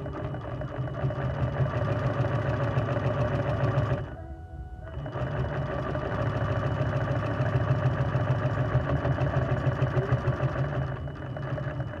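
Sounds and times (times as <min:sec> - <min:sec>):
sewing machine running: 0:00.0 - 0:04.1, 0:04.9 - 0:12.0.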